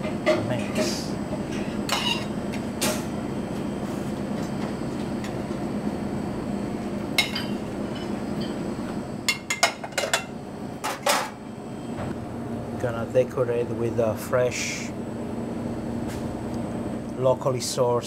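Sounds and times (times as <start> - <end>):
steady kitchen hum: 0.0 - 18.0.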